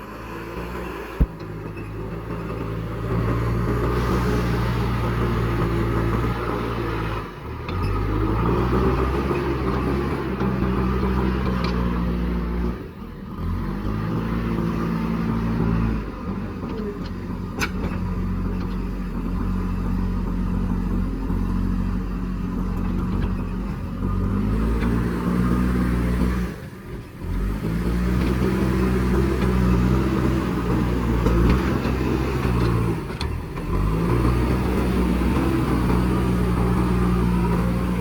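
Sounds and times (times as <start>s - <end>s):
diesel engine running under load: 0.0s - 38.0s.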